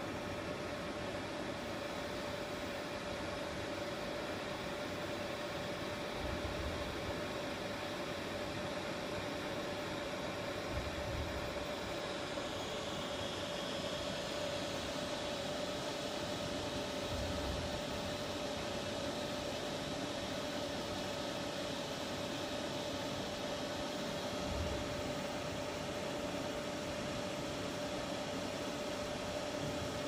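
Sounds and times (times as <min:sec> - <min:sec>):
constant hum tone: 0:00.0 - 0:30.0
cooling fans whirring: 0:00.0 - 0:30.0.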